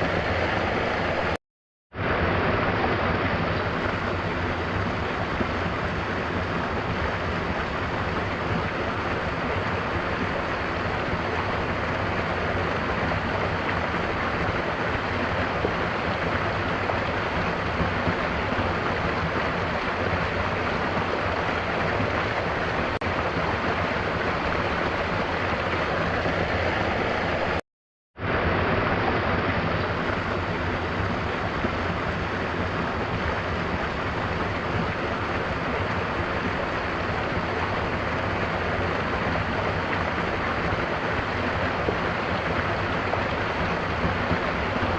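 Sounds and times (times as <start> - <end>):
waterfall rushing: 0.0 - 1.4, 2.0 - 27.6, 28.2 - 44.9.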